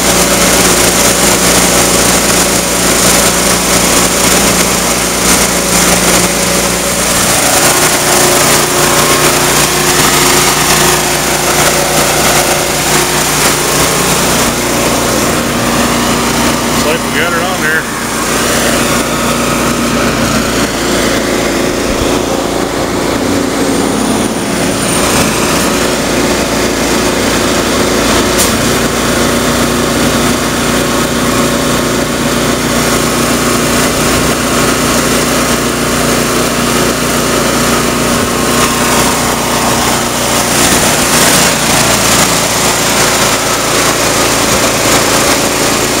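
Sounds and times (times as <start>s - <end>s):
air compressor running: 0.0s - 46.0s.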